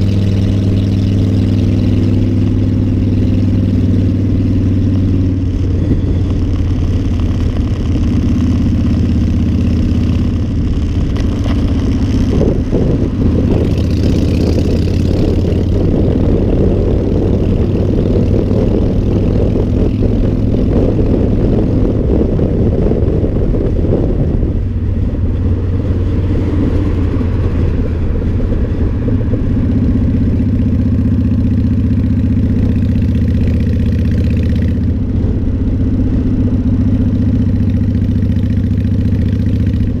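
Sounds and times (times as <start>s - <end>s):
motorcycle engine running: 0.0s - 40.0s
wind noise on microphone: 0.0s - 40.0s.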